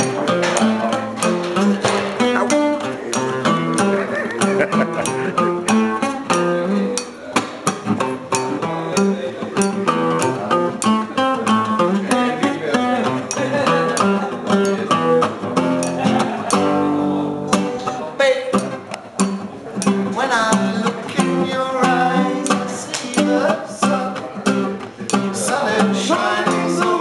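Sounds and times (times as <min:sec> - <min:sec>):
guitar picking quick runs: 0:00.0 - 0:27.0.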